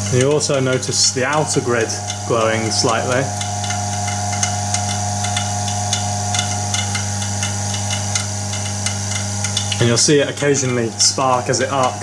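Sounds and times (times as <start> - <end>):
sharp sparking ticks: 0.0 - 12.0
steady hum: 0.0 - 12.0.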